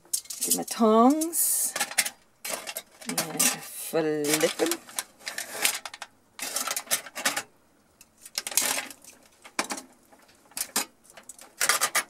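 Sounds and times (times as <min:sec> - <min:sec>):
tongs clicking and scraping foil pan: 0:00.0 - 0:12.0.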